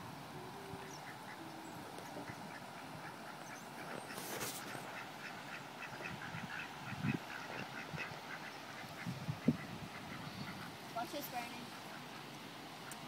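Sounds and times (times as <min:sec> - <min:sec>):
ducks quacking: 0:00.8 - 0:13.0.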